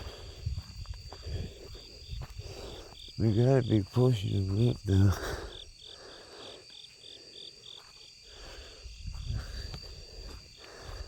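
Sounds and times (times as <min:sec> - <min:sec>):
crickets chirping: 0:00.0 - 0:11.0
high insect whine: 0:00.0 - 0:11.0.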